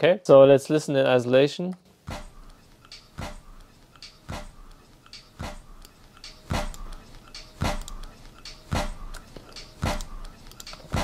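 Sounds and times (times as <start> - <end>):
faint backing beat drum hits: 2.0 - 11.0.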